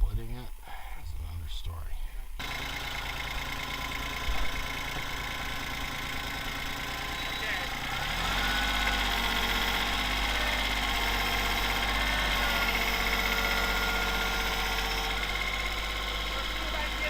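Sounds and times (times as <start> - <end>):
vehicle engine droning: 2.4 - 17.0.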